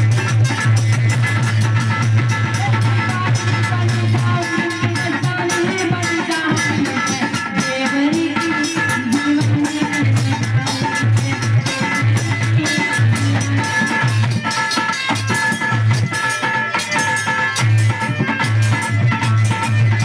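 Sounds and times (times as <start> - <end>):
folk song percussion beat: 0.0 - 20.0.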